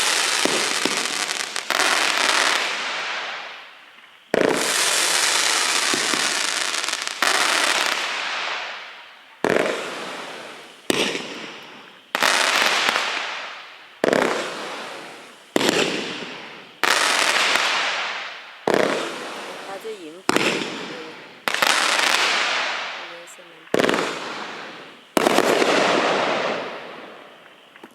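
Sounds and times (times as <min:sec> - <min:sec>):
fireworks bangs: 0:00.0 - 0:27.9.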